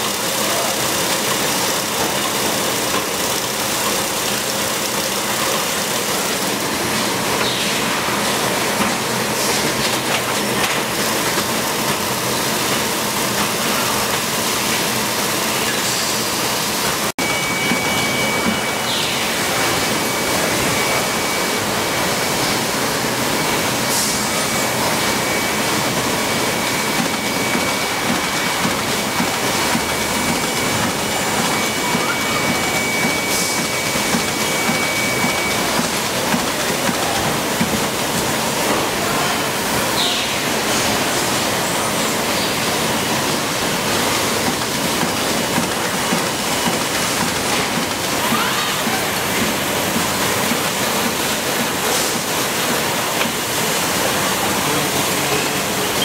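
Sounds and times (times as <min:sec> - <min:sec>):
production line machine noise: 0:00.0 - 0:56.0.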